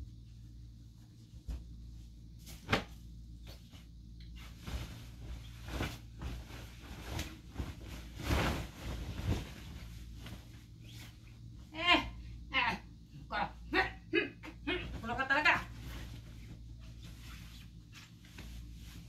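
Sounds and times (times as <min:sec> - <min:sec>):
bedsheet flapping: 0:00.0 - 0:12.0, 0:14.6 - 0:19.0
steady low hum: 0:00.0 - 0:19.0
rustling swishes of a sheet: 0:00.2 - 0:11.6, 0:14.8 - 0:19.0.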